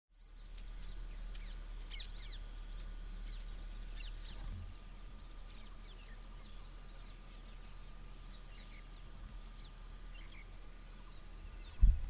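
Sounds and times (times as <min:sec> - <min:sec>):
birds chirping: 0:00.1 - 0:12.0
steady low hum: 0:00.1 - 0:12.0.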